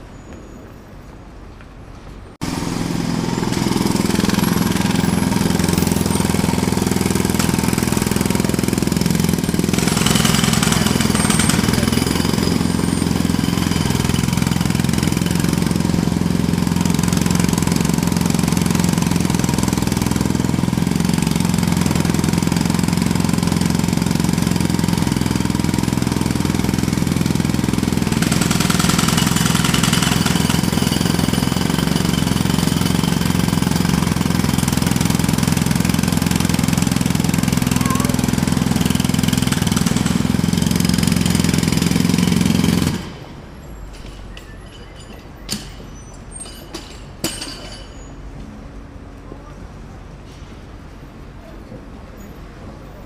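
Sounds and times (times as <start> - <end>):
jackhammer hammering: 2.4 - 48.1.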